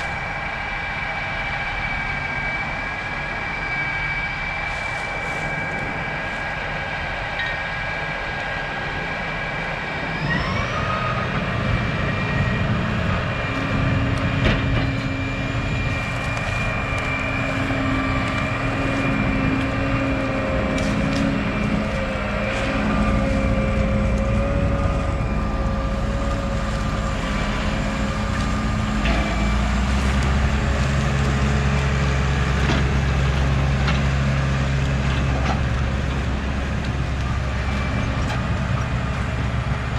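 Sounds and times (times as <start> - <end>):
deeper drone: 0.0 - 39.9
harvest machinery engine running: 0.0 - 39.9.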